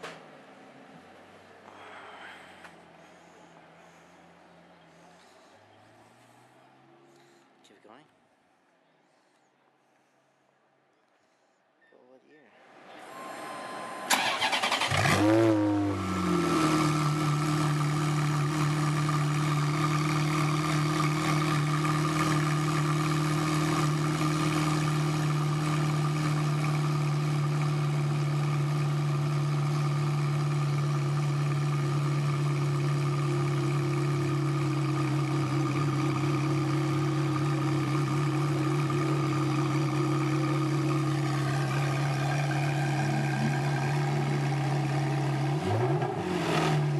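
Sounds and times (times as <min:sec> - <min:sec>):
car engine starting and idling: 0:00.0 - 0:07.4, 0:12.9 - 0:46.9.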